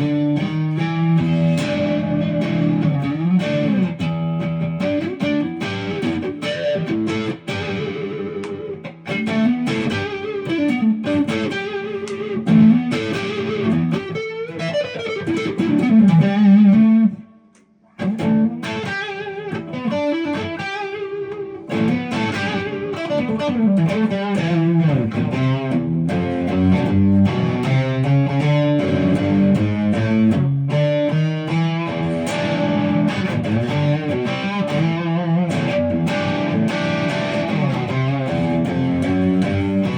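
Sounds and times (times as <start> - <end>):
overdriven electric guitar playing: 0.0 - 39.9.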